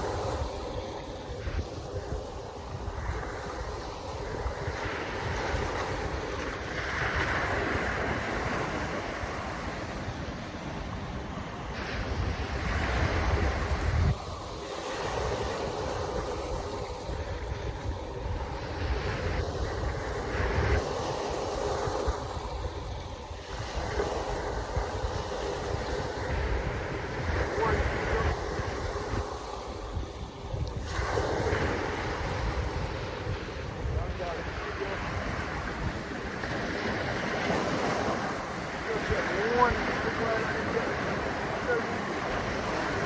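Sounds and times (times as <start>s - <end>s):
waves washing: 0.0s - 43.0s
wind gusting on microphone: 0.0s - 43.0s.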